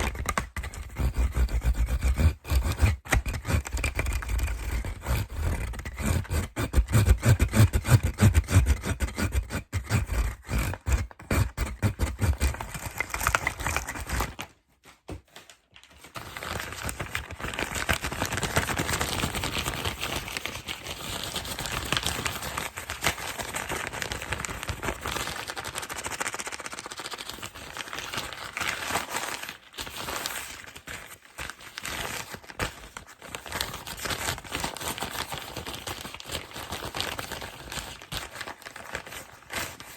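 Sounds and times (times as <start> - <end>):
packaging crinkling and scraping: 0.0 - 39.9
scratching and tapping on packaging: 0.0 - 39.9.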